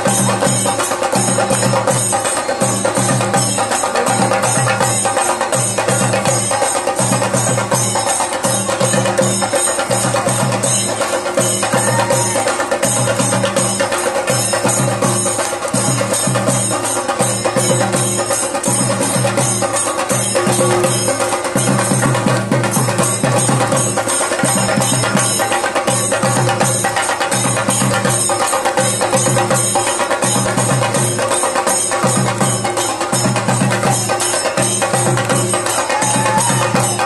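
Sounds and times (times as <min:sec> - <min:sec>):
music with fast drumming: 0:00.0 - 0:37.0.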